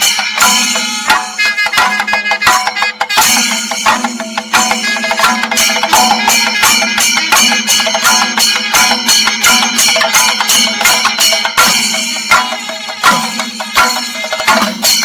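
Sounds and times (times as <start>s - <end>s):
chenda drums: 0.0s - 15.0s
hand cymbals: 0.0s - 15.0s.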